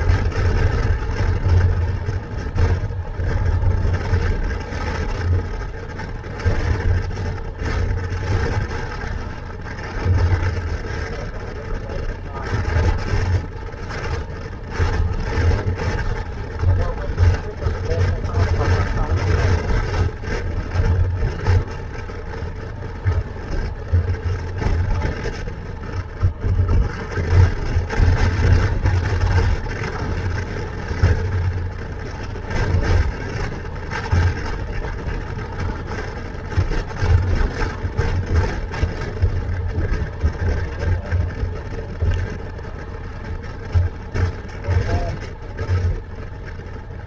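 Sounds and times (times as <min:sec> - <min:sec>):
motorcycle engine running: 0:00.0 - 0:47.0
wind buffeting microphone: 0:00.0 - 0:47.0.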